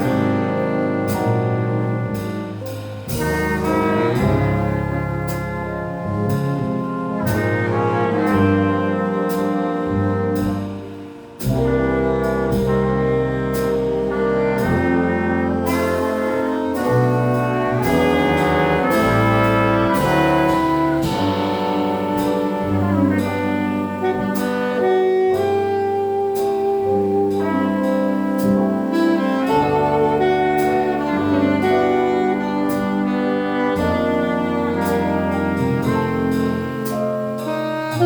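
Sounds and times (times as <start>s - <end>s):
cool jazz ensemble playing: 0.0s - 38.0s.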